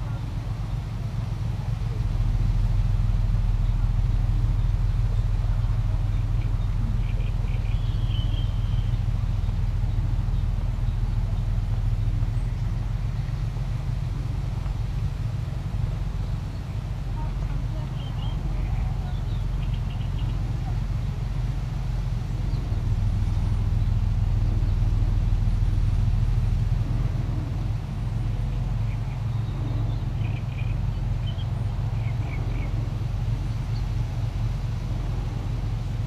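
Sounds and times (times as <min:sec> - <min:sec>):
engine rumbling: 0:00.0 - 0:36.0.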